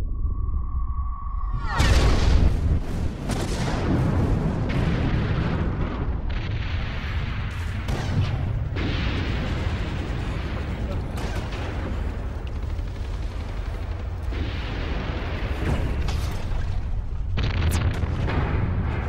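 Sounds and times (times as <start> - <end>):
artillery explosions: 1.7 - 19.0
gunfire: 1.9 - 19.0.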